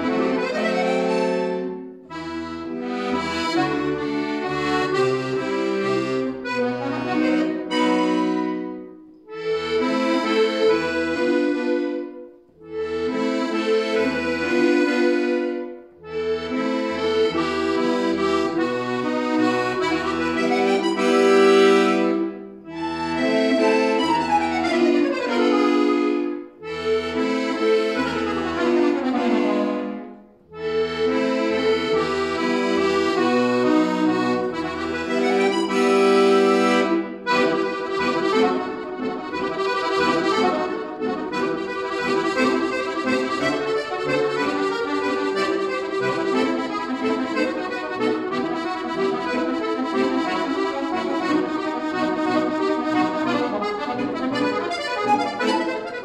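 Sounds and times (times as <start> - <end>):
piano accordion playing: 0.0 - 56.0.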